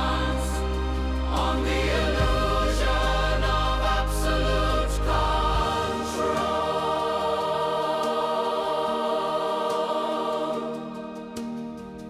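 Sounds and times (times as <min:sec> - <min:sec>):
choir holding sustained chords: 0:00.0 - 0:12.0.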